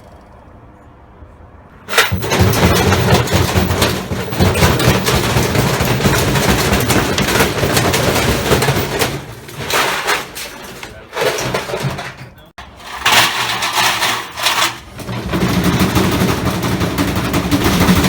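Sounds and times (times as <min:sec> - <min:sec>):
washing machine droning: 0:01.7 - 0:18.0
objects banging in washing machine drum: 0:01.8 - 0:18.0.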